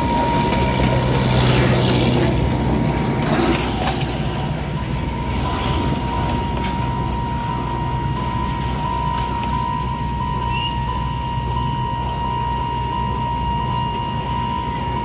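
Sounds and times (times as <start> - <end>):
steady high tone: 0.0 - 15.0
steam locomotive rumbling: 0.0 - 15.0.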